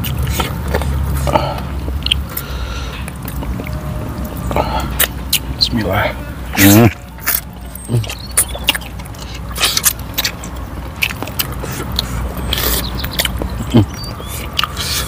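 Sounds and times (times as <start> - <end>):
wet chewing and lip smacking: 0.0 - 15.0.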